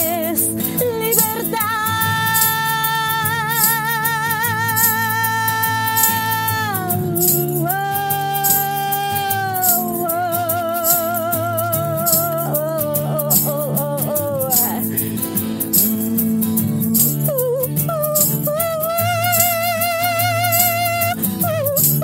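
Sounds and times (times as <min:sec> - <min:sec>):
acoustic band accompaniment: 0:00.0 - 0:22.0
rattling percussion beat: 0:00.0 - 0:22.0
woman singing with vibrato: 0:00.0 - 0:22.0.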